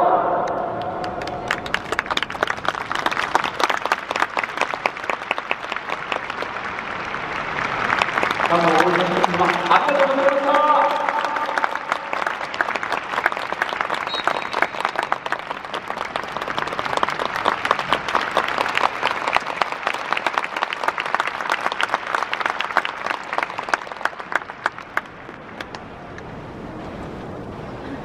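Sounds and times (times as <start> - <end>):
crowd applauding: 0.8 - 25.8.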